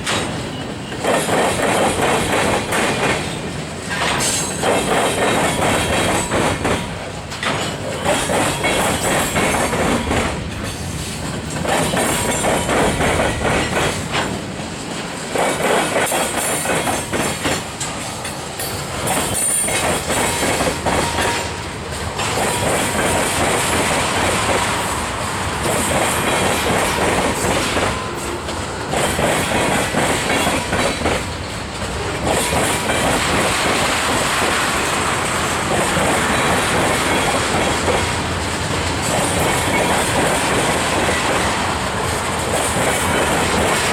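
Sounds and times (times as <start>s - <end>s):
train wheels clacking over rail joints: 0.0s - 43.9s.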